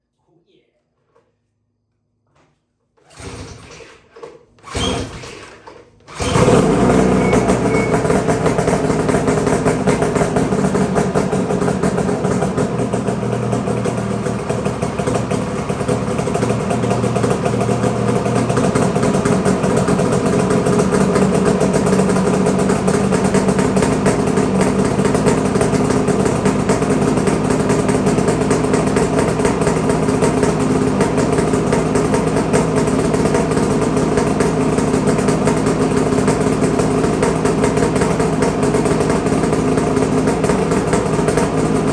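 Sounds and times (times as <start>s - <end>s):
snowmobile engine idling loudly: 6.1s - 41.9s.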